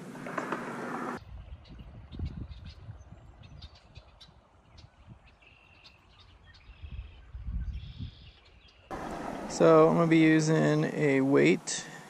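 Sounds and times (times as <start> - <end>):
small birds chirping: 1.2 - 12.0.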